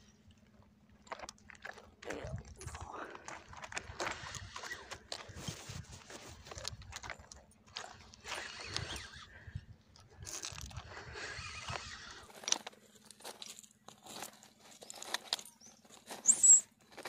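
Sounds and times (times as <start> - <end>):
footsteps on loose gravel: 1.0 - 9.4, 10.0 - 17.0.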